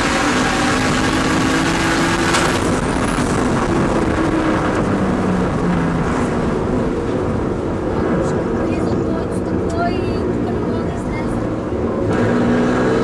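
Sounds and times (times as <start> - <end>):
car engine running hard: 0.0 - 13.0
loud steady rush of noise: 0.0 - 13.0.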